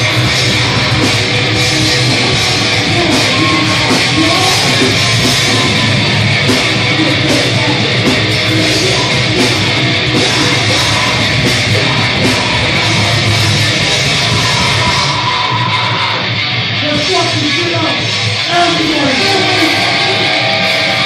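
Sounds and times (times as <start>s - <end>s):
bass guitar: 0.0s - 21.0s
drums: 0.0s - 21.0s
electric guitars: 0.0s - 21.0s.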